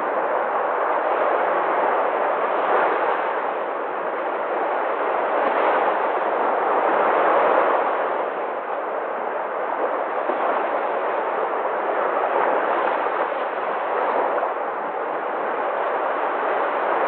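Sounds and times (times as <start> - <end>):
sea surf washing on shore: 0.0 - 17.0.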